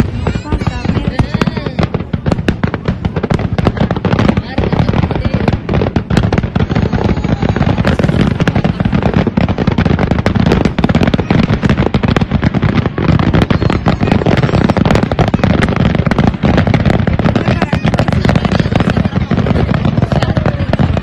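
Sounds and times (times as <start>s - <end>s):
fireworks booming and crackling: 0.0s - 21.0s.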